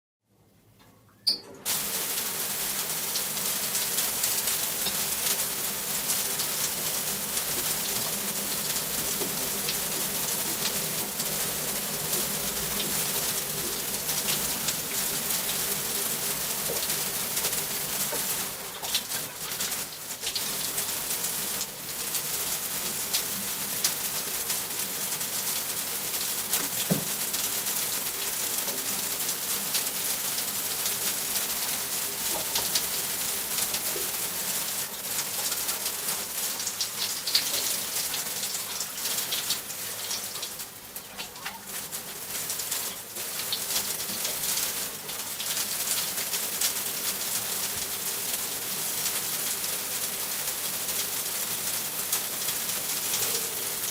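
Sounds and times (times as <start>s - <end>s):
shower water spraying: 1.7s - 53.9s.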